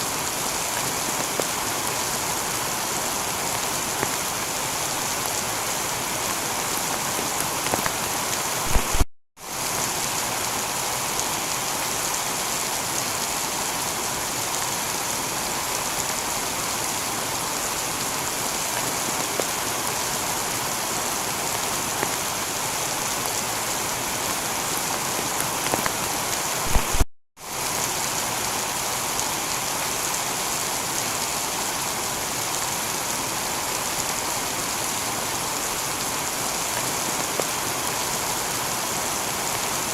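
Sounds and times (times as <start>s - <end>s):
heavy rain on a tiled roof: 0.0s - 39.9s.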